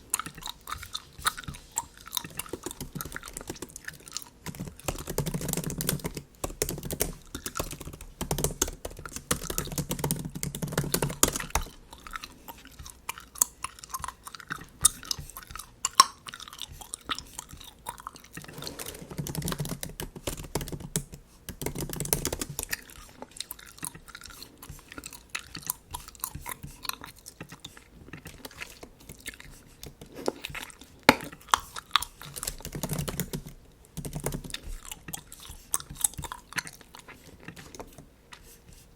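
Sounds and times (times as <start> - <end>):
wet smacking gum chewing: 0.0 - 38.9.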